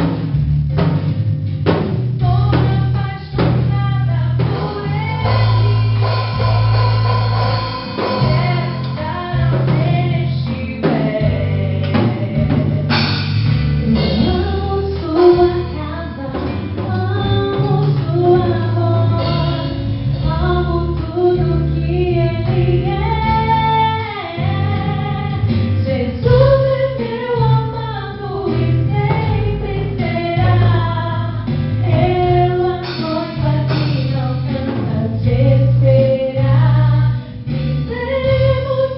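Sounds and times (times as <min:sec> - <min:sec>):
bass: 0:00.0 - 0:38.9
drum kit: 0:00.0 - 0:38.9
guitar: 0:00.0 - 0:38.9
woman singing: 0:02.2 - 0:06.7, 0:08.0 - 0:13.0, 0:13.8 - 0:37.2, 0:37.8 - 0:38.9.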